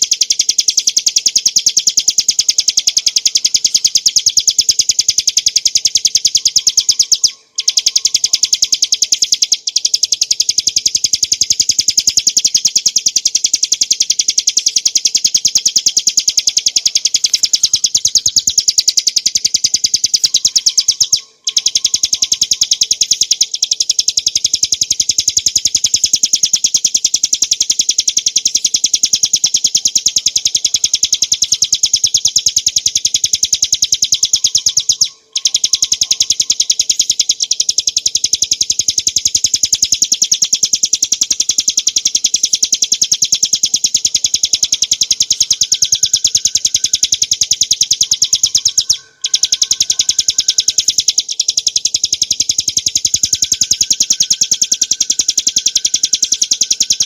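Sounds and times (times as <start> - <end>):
bird singing a rattling trill: 0.0 - 57.0.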